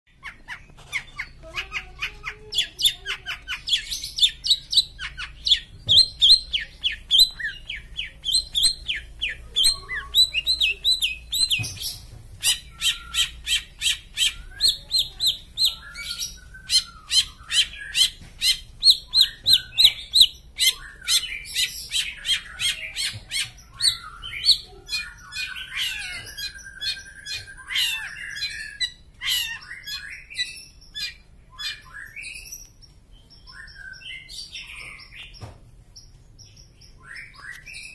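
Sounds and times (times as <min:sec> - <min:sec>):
shrike singing: 0:01.4 - 0:32.4.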